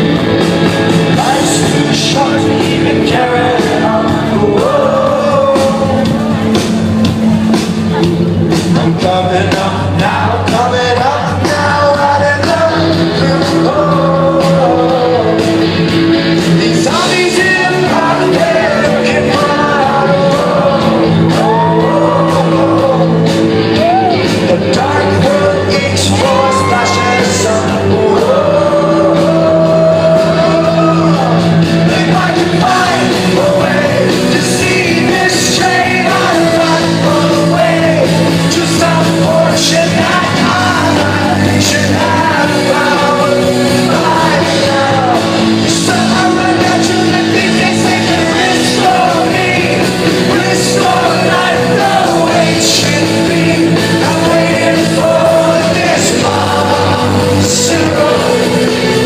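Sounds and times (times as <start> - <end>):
rock song with singer: 0.0 - 59.0.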